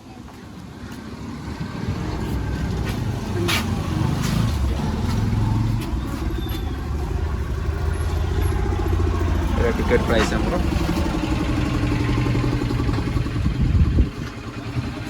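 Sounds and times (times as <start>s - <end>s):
vehicle engine running: 0.2s - 15.0s.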